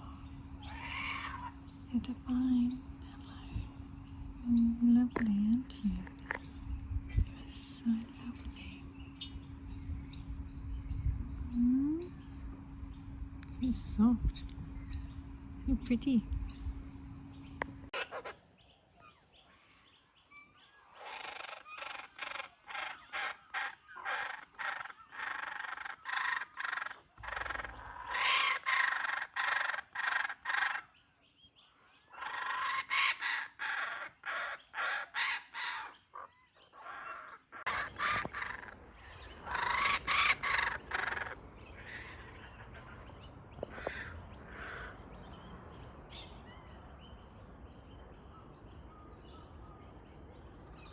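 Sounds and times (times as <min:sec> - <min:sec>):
kookaburras calling: 0:00.0 - 0:50.9.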